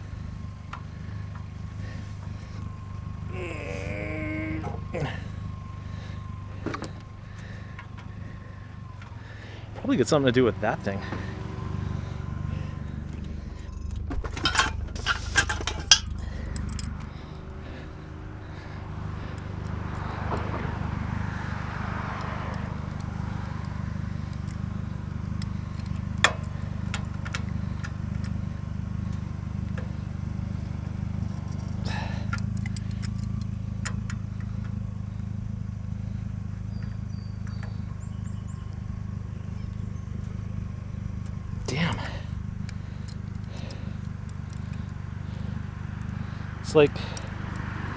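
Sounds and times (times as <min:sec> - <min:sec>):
road traffic rumble: 0:00.0 - 0:47.9
vehicle passing: 0:00.0 - 0:47.9.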